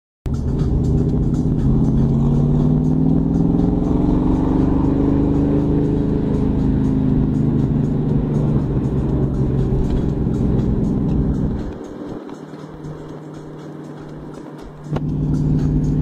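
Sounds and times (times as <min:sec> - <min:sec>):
car engine accelerating: 0:00.3 - 0:16.0.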